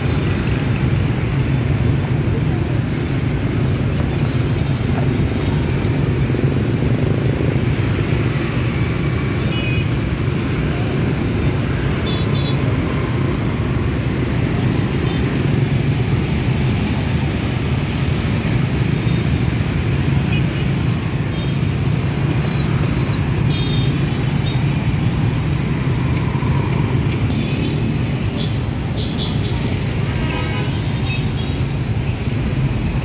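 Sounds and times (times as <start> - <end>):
scooter and car traffic: 0.0 - 33.0.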